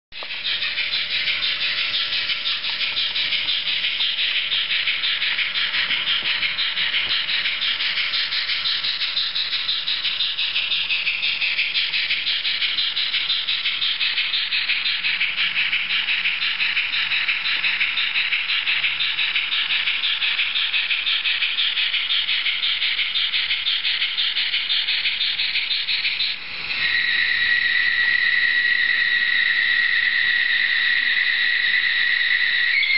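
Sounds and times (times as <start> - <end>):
steam engine chuffing from speaker: 0.2 - 32.9.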